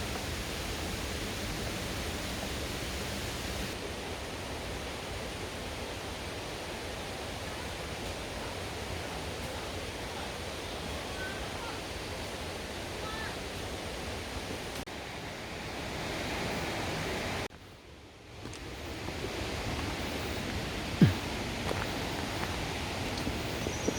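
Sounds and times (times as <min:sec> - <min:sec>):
stream rushing: 0:00.0 - 0:17.5, 0:18.1 - 0:23.9.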